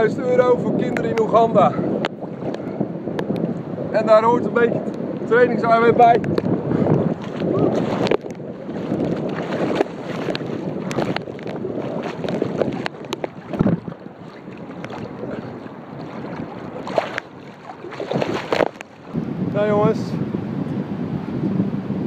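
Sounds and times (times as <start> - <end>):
water sloshing against microphone: 0.0 - 19.6.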